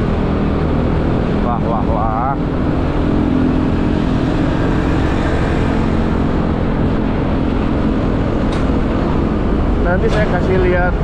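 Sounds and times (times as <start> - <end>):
scooter engine running: 0.0 - 9.8
wind rushing over microphone: 0.0 - 11.0.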